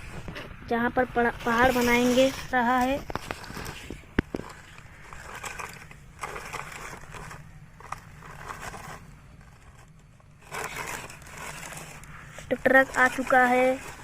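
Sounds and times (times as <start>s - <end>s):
toy truck wheels rolling over sand: 1.1s - 14.0s.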